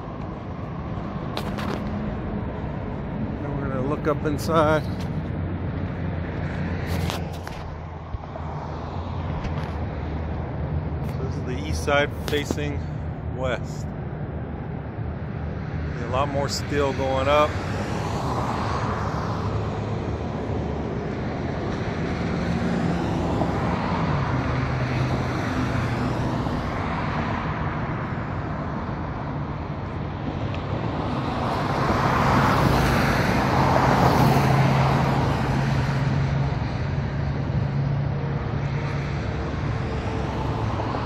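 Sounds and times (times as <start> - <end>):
loud vehicle passing: 0.0 - 13.8, 15.2 - 41.0
cars driving past: 0.0 - 41.0.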